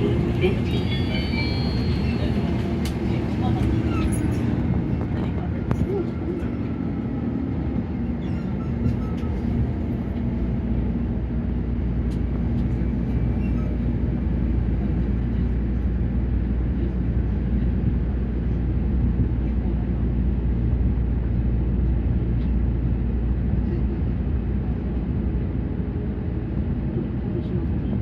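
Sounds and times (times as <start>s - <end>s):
monorail car rumbling on track: 0.0s - 28.0s.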